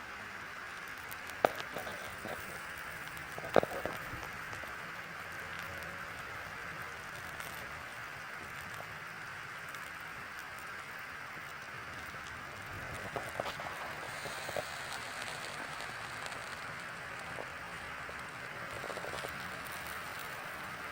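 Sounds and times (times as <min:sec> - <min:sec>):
skewers sizzling over charcoal: 0:00.0 - 0:20.9
sharp crackling pops: 0:00.4 - 0:20.9.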